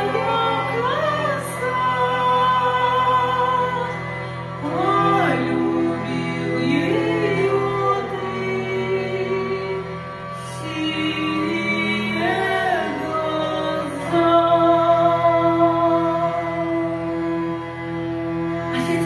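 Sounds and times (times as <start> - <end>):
hurdy-gurdy drone: 0.0 - 19.0.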